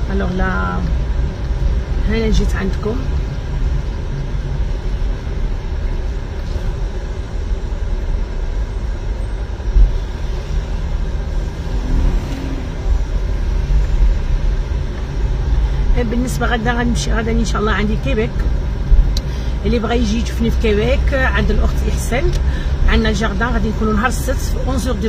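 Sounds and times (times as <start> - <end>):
car interior engine and road rumble: 0.0 - 25.0.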